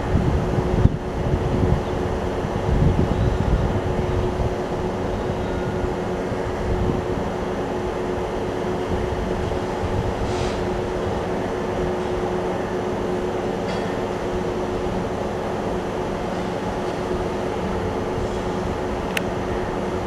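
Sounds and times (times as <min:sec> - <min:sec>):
electric locomotive hum: 0:00.0 - 0:20.0
wheels rumbling on track: 0:00.0 - 0:20.0.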